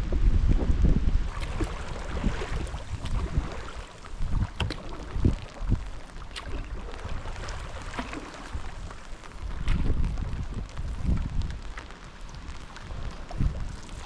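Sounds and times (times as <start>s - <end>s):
wind rumbling on microphone: 0.0s - 14.0s
paddle strokes splashing water: 1.3s - 14.0s.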